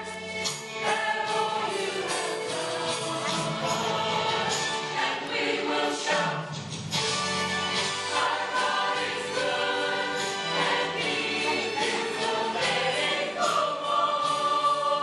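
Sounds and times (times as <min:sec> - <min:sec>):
choir singing a hymn: 0:00.0 - 0:06.6, 0:07.6 - 0:15.0.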